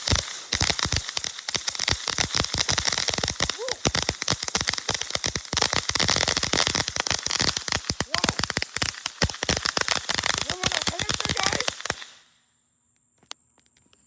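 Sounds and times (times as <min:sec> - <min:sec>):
firework crackling pops: 0:00.0 - 0:12.4.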